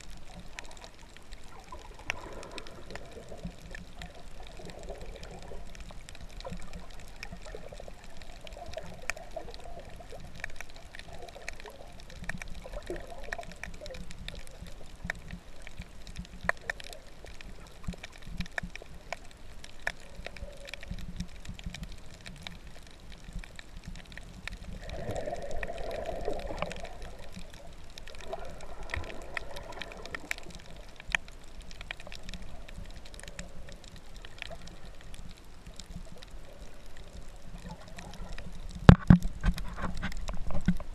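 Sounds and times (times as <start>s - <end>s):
muffled underwater sloshing: 0.0s - 40.9s
sharp underwater clicks: 0.0s - 40.9s.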